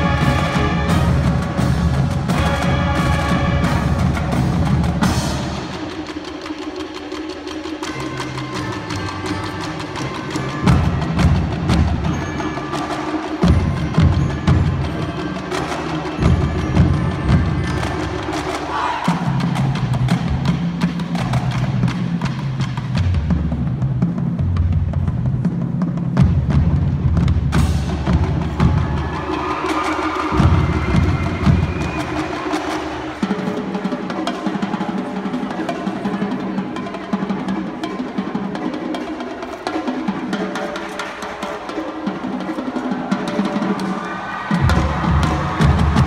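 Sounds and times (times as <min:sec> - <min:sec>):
marching band playing: 0:00.0 - 0:46.0
snare and bass drums: 0:00.0 - 0:46.0.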